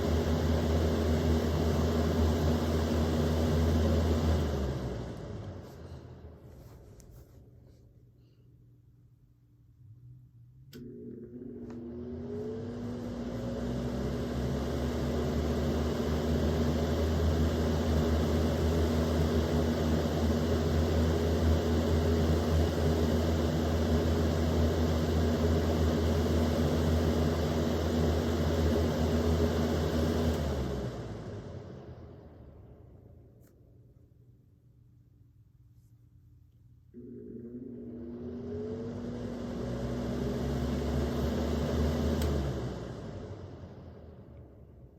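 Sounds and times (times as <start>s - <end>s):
electric fan motor humming: 0.0s - 6.4s, 10.7s - 32.6s, 36.9s - 44.8s.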